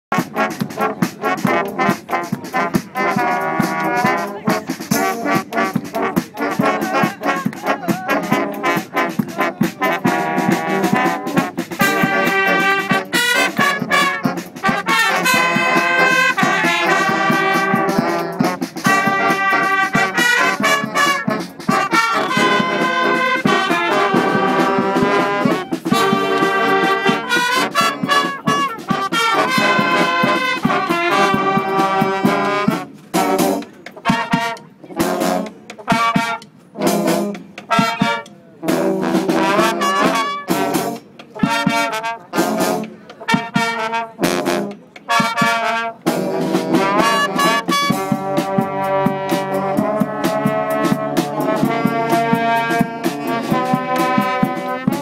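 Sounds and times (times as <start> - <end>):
brass band playing: 0.1 - 55.0.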